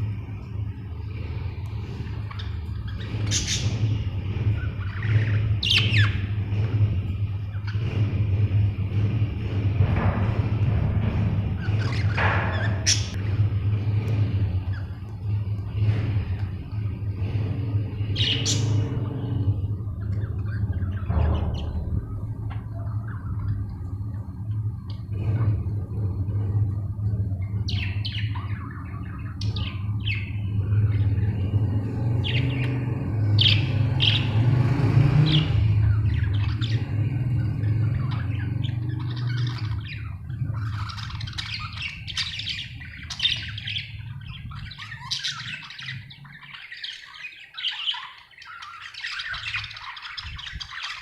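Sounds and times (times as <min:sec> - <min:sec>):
steady low hum: 0:00.0 - 0:51.0
parrots chattering and squawking: 0:00.2 - 0:32.8, 0:35.2 - 0:51.0.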